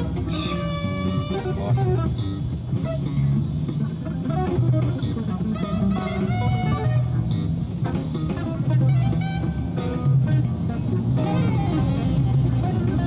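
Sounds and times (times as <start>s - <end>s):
bass line: 0.0s - 13.0s
drum kit: 0.0s - 13.0s
jazz guitar lines: 0.0s - 13.0s.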